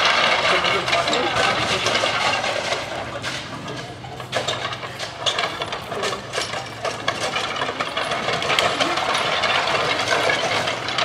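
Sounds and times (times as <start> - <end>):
engine idling: 0.0 - 11.0
irregular knocks and clatter: 0.0 - 11.0.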